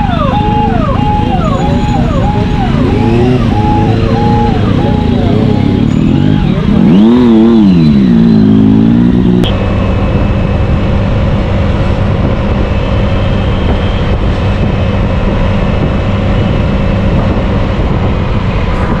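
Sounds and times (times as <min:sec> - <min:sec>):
motorcycle cruising: 0:00.0 - 0:19.0
road and wind rush: 0:00.0 - 0:19.0
motorcycle engine revving: 0:00.4 - 0:19.0.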